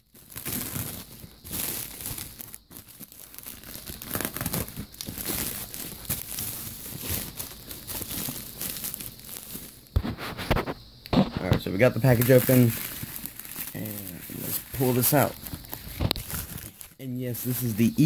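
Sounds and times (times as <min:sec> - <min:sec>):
bubble mailer crinkling and tearing: 0:00.0 - 0:18.0.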